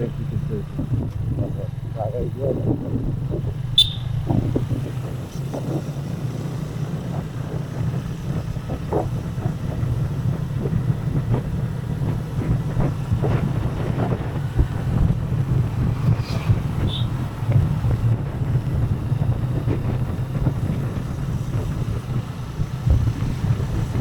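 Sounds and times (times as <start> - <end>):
motorcycle engine running: 0.0 - 24.0
wind rushing over microphone: 0.0 - 24.0.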